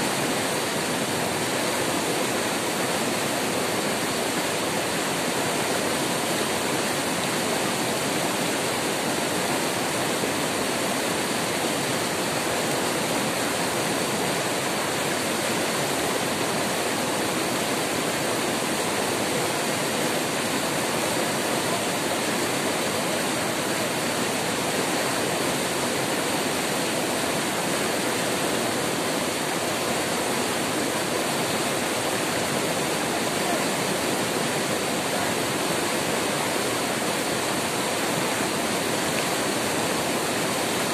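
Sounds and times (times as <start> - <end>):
white-water rapids rushing: 0.0 - 40.9.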